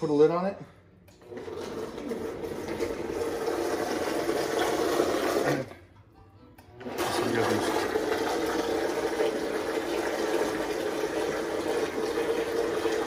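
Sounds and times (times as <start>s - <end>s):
blender running: 1.2s - 5.7s, 6.8s - 13.0s.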